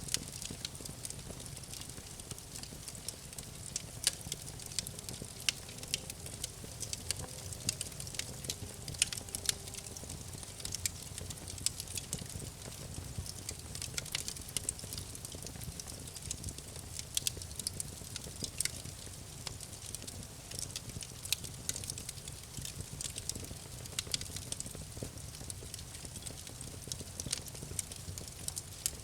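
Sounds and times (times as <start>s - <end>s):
campfire crackling and popping: 0.0s - 29.0s
low rumble of flames: 0.0s - 29.0s.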